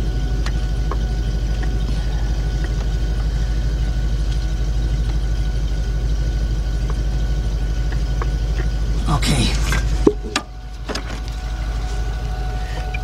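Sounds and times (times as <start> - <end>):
rough engine idling with misfire: 0.0 - 13.0.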